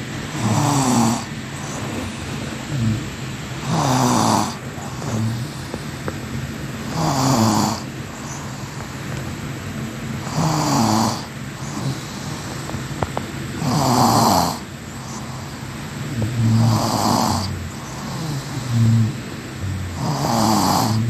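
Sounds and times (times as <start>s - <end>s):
loud snoring: 0.0s - 6.1s, 6.8s - 9.0s, 10.2s - 12.8s, 13.6s - 21.0s
steady hiss: 0.0s - 21.0s.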